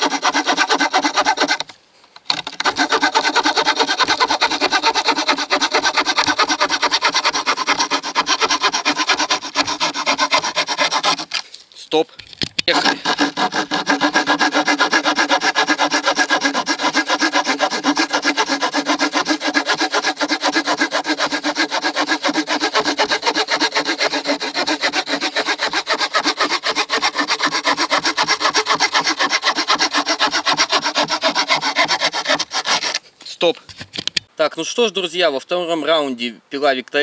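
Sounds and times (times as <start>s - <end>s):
hand saw rasping through wood: 0.0s - 1.7s, 2.3s - 11.4s, 12.7s - 33.0s.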